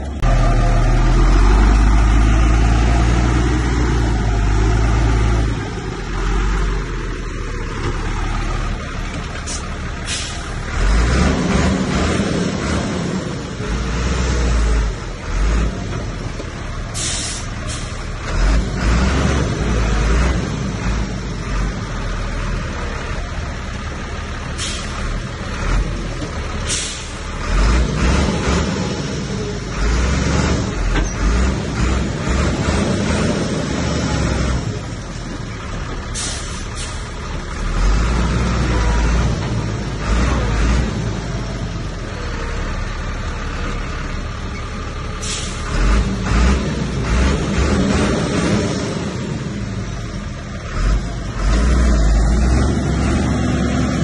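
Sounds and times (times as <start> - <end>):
diesel earthmoving machinery engine: 0.0 - 54.0.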